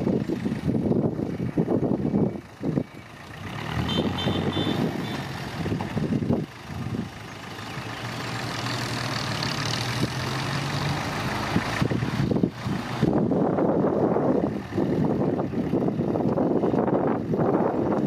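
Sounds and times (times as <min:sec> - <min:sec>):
dump truck engine running: 0:00.0 - 0:18.0.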